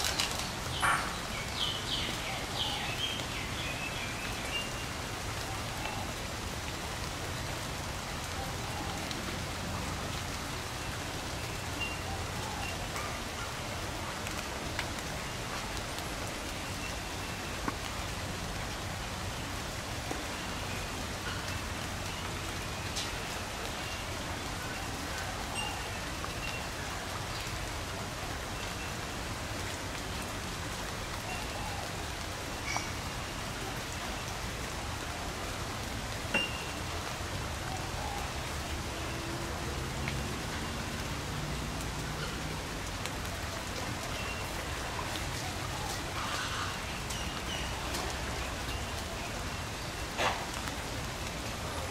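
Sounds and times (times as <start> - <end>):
clicks of raindrops: 0.0 - 51.9
steady rain falling: 0.0 - 51.9.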